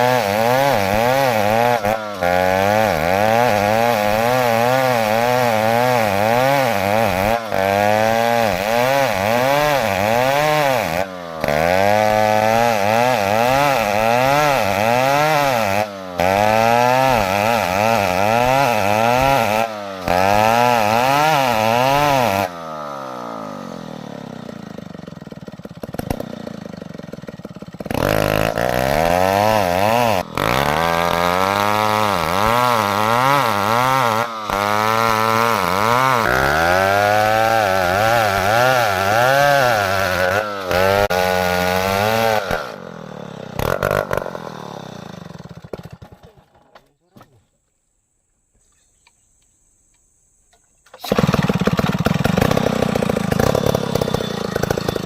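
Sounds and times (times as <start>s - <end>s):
chainsaw cutting wood: 0.0s - 47.3s, 50.8s - 55.0s.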